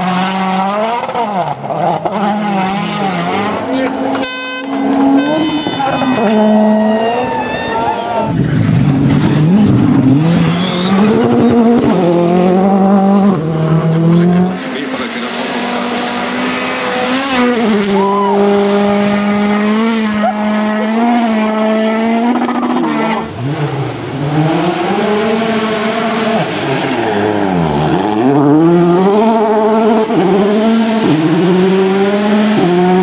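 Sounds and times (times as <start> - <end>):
rally car engine at high revs: 0.0 - 7.5, 8.2 - 33.0.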